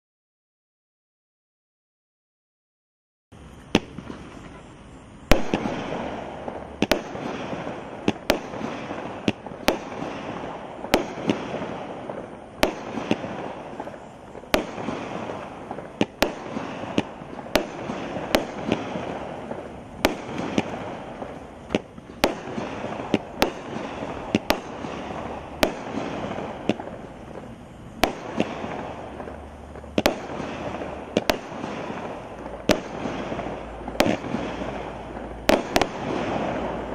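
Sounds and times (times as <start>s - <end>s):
firework bangs: 3.4s - 36.9s
fireworks launching with rushing noise: 3.4s - 36.9s.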